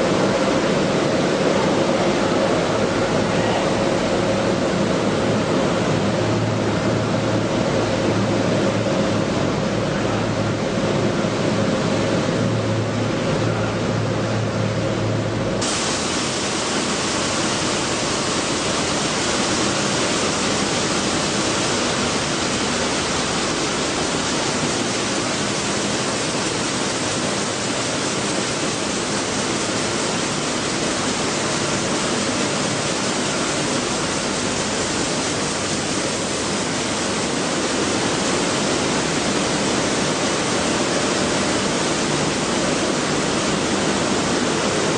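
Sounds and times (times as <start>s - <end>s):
flour mill machinery running: 3.8s - 44.9s.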